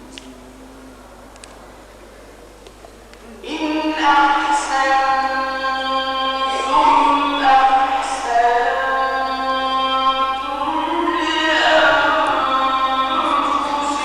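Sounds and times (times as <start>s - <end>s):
man reciting melismatic chant: 0.0s - 2.3s, 3.3s - 14.0s.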